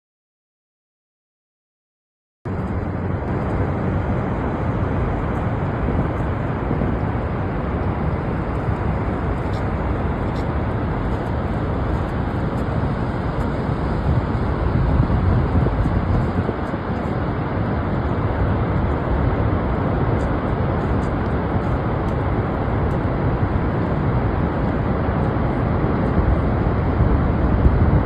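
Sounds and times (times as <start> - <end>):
waterfall roaring: 2.5 - 28.0.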